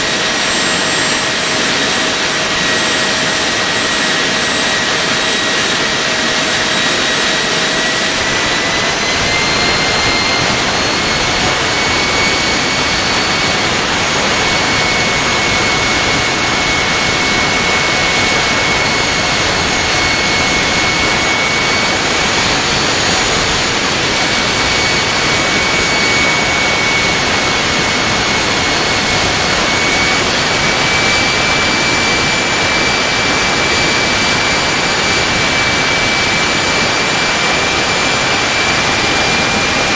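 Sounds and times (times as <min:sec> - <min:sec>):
turbojet engine roar with whine: 0:00.0 - 0:39.9.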